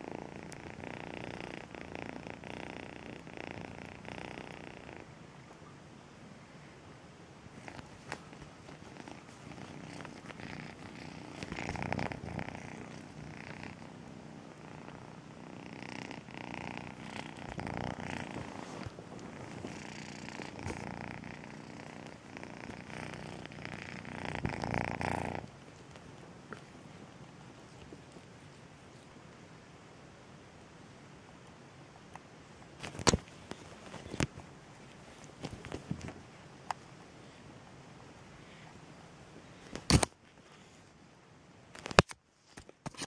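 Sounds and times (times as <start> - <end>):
kitten purring: 0.0 - 5.7, 7.4 - 29.6, 32.0 - 40.8.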